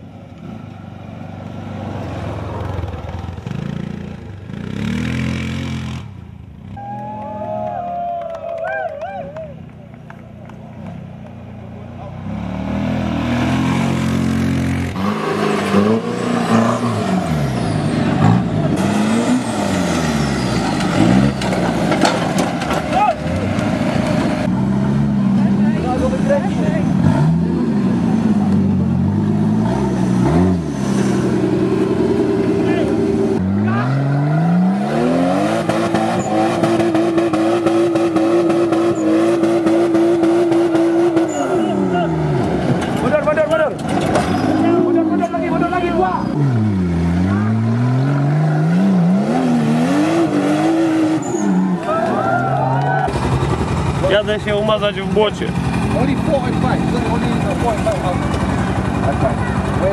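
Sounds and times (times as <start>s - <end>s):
off-road vehicle engine revving: 0.3s - 7.5s, 10.5s - 59.9s.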